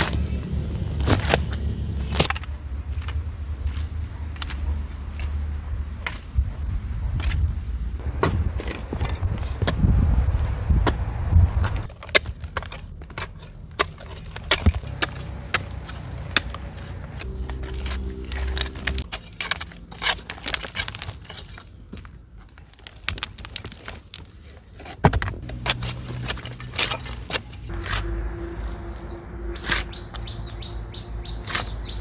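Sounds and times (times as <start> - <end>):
low hum: 0.0 - 21.6, 25.2 - 32.0.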